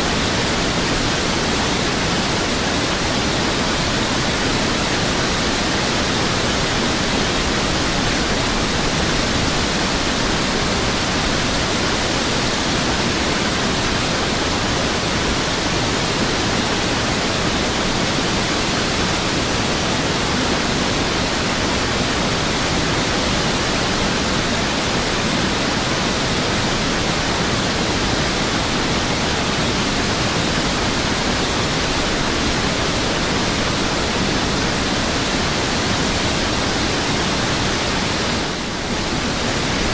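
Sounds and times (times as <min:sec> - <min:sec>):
rushing water roar: 0:00.0 - 0:39.9.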